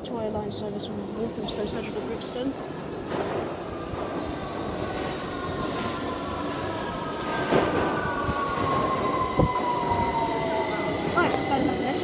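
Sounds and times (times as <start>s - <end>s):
rumble of train wheels: 0.0s - 12.0s.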